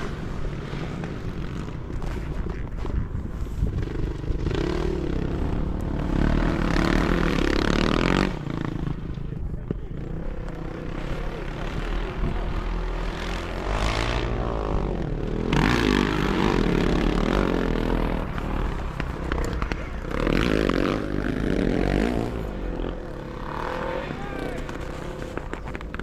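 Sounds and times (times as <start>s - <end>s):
motorcycle engines revving past: 0.0s - 26.0s.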